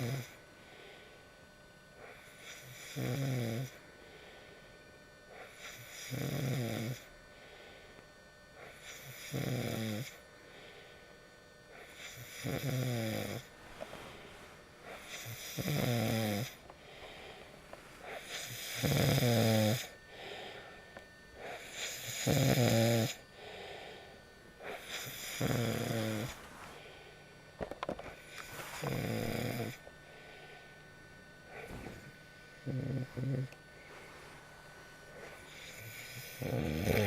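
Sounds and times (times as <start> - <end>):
person snoring: 0.0 - 1.1, 2.0 - 4.5, 5.3 - 7.8, 8.6 - 10.9, 11.7 - 20.8, 21.4 - 27.2, 28.1 - 30.7, 31.5 - 37.0.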